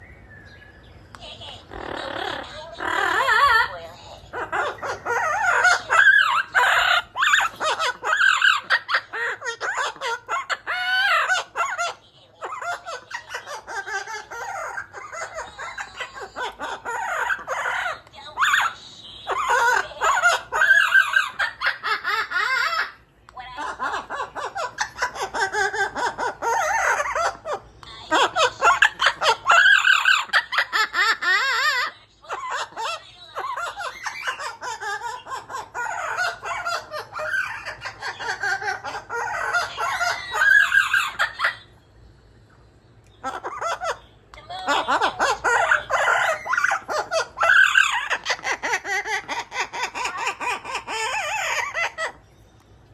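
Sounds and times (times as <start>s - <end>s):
parrot cackling and squawking: 1.2s - 41.8s, 43.0s - 52.3s.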